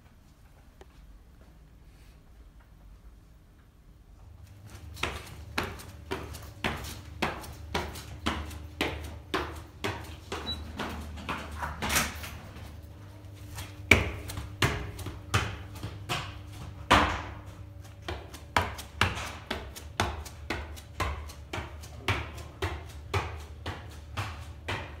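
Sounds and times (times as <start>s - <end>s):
footsteps running on tiled stairs: 4.4s - 25.0s.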